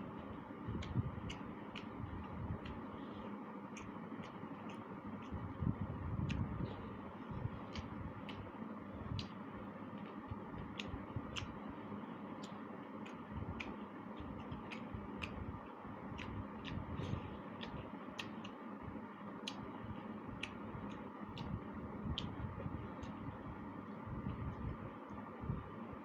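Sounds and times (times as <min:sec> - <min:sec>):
low background hum: 0:00.0 - 0:26.0
wet mouth clicks while chewing: 0:00.2 - 0:23.4.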